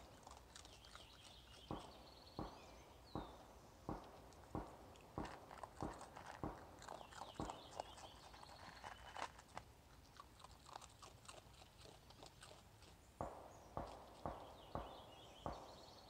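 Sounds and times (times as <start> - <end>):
raccoon crunching food: 0.0 - 16.0.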